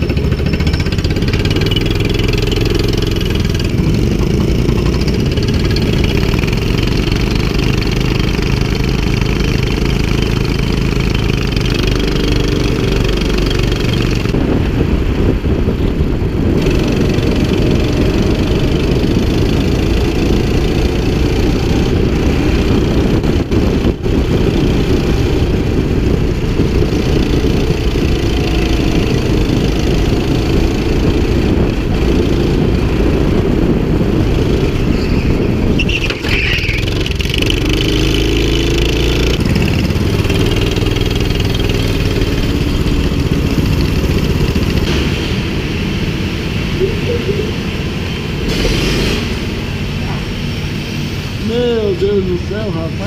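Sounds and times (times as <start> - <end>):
go-kart engine running: 0.0 - 53.0.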